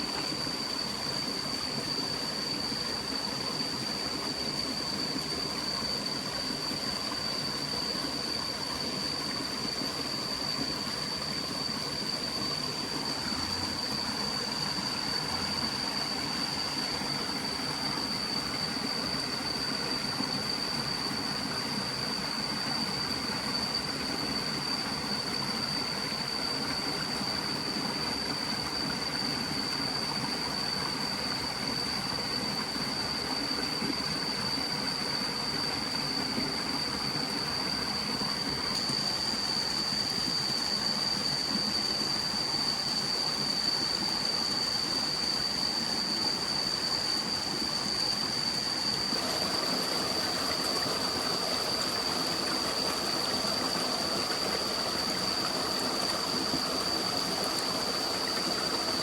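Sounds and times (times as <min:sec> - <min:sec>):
forest stream flowing: 0:00.0 - 0:59.0
high-pitched whine: 0:00.0 - 0:59.0.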